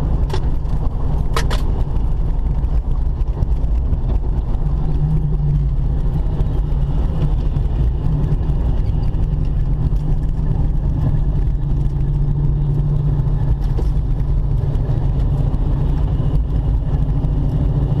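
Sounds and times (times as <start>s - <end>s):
car engine idling low drone: 0.0s - 18.0s.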